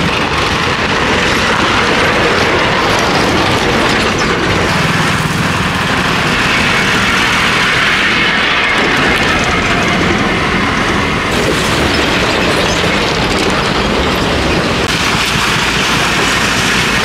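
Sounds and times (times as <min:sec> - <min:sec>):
tyres on gravel road: 0:00.0 - 0:17.0.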